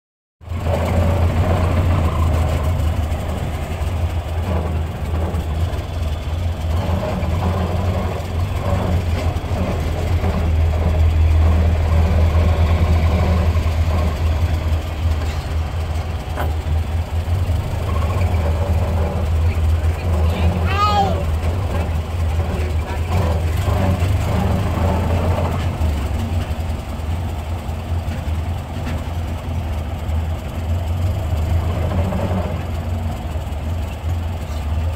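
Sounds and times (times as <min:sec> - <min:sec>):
car engine drone: 0:00.4 - 0:34.9
road and body noise: 0:00.4 - 0:34.9.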